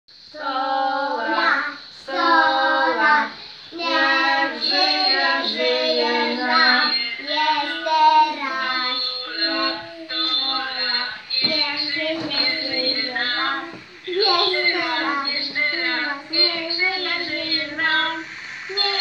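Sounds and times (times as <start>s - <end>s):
people singing a birthday song: 0.1s - 19.0s.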